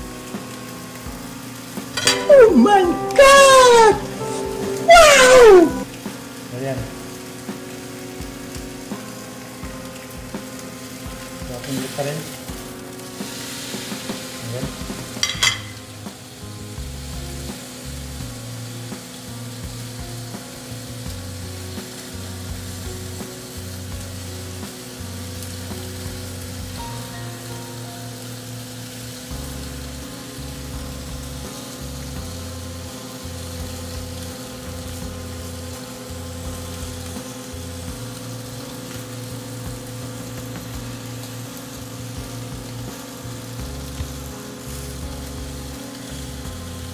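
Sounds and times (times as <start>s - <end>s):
steak sizzling in pan: 0.0s - 46.9s.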